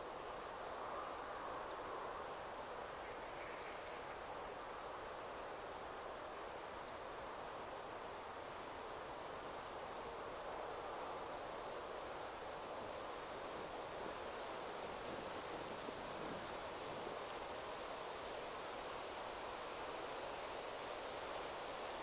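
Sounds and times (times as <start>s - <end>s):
wind rustling through trees: 0.0s - 22.0s.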